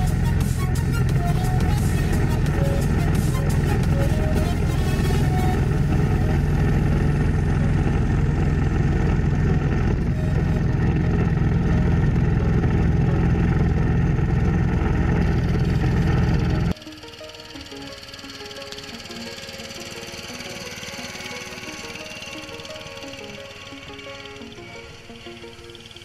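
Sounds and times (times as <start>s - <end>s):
garden tractor engine running: 0.0s - 26.0s.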